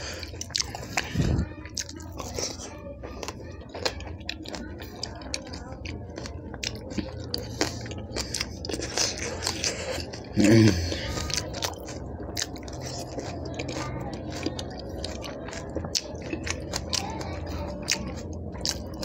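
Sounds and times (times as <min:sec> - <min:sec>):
chewing and crunching: 0:00.0 - 0:19.0
wet mouth sounds: 0:00.0 - 0:19.0.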